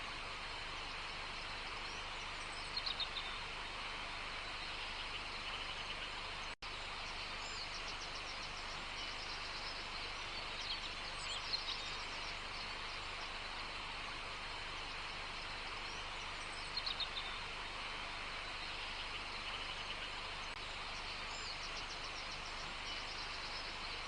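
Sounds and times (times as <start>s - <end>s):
small birds chirping: 0.0s - 24.0s
steady background hiss: 0.0s - 24.0s.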